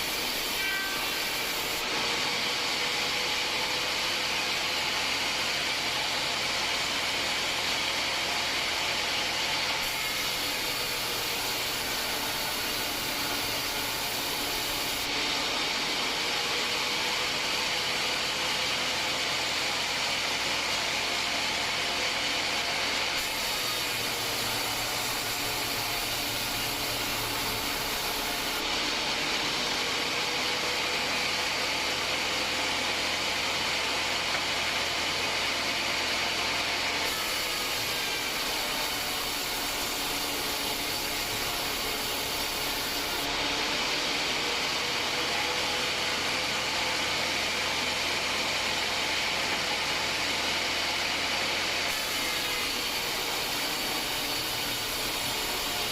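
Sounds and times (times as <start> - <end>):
band sawmill cutting log: 0.0 - 55.9.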